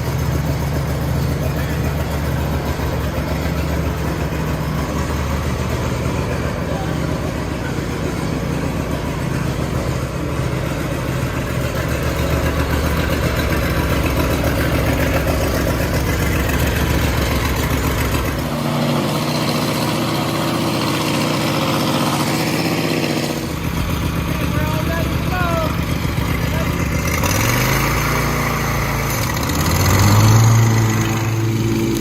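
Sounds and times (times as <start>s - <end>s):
riding mower engine running: 0.0s - 32.0s.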